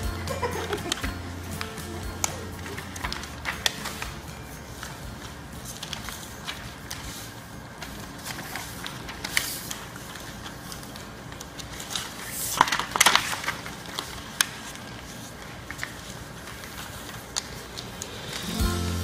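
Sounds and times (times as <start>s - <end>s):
paper rustling and crinkling: 0.3s - 18.6s.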